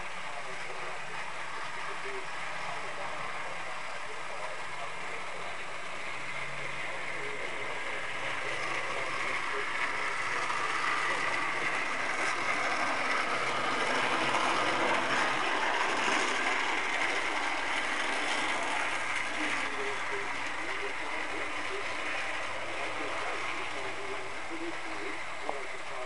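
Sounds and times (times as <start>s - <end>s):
model train rattling on track: 0.0s - 26.0s.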